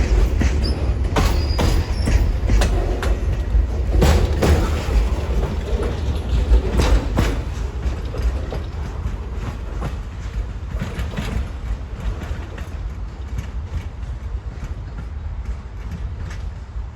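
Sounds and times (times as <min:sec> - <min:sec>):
train cars rumbling on rails: 0:00.0 - 0:16.9.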